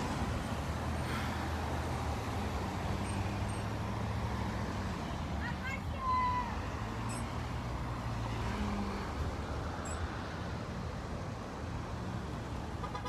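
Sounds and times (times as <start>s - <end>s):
cars and trucks passing: 0.0s - 13.0s.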